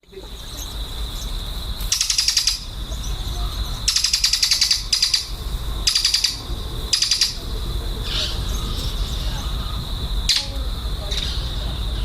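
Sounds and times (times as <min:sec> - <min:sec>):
bird chattering: 0:01.9 - 0:12.0.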